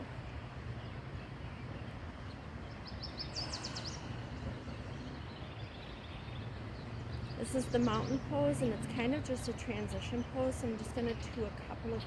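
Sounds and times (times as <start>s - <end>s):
low outdoor background noise: 0.0s - 12.0s
songbird singing: 0.0s - 12.0s.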